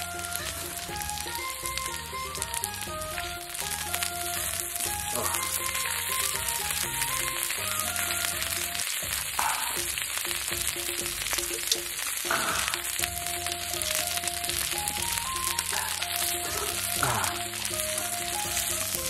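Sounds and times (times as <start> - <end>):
background music: 0.0 - 19.0
meat sizzling on a griddle: 0.0 - 19.0.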